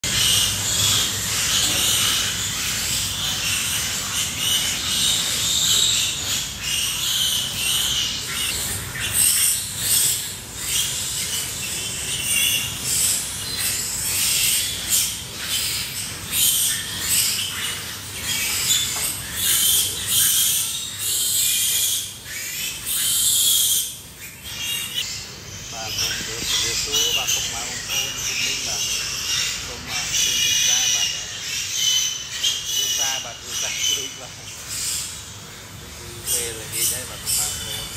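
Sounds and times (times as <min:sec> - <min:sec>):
pigs squealing and chirping: 0:00.0 - 0:37.9.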